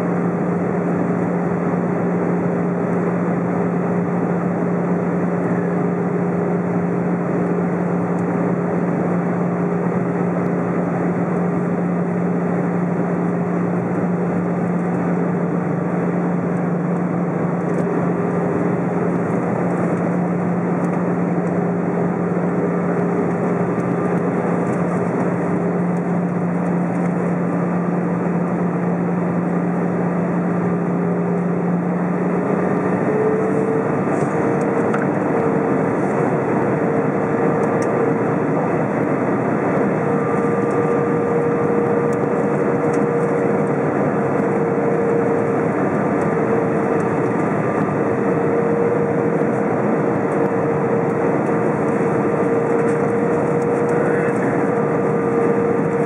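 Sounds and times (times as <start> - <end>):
jet engine drone: 0.0 - 56.0.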